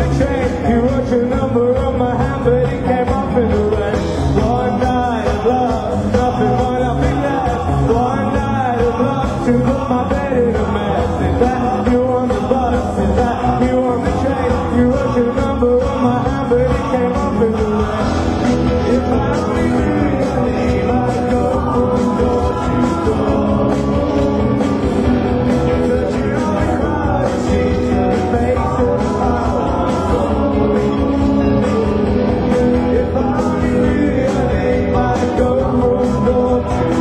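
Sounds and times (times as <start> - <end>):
person singing: 0.0 - 37.0
rock band playing live: 0.0 - 37.0.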